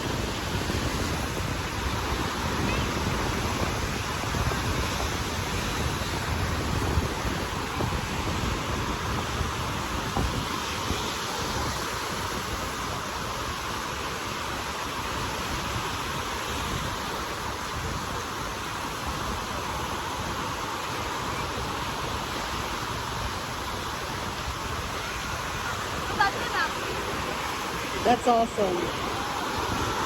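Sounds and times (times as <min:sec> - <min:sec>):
ocean surf: 0:00.0 - 0:30.0
wind rumbling on microphone: 0:00.0 - 0:30.0.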